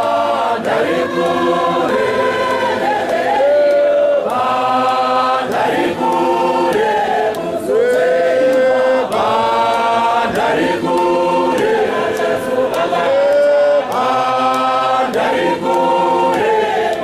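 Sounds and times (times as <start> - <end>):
men's choir singing: 0.0 - 17.0.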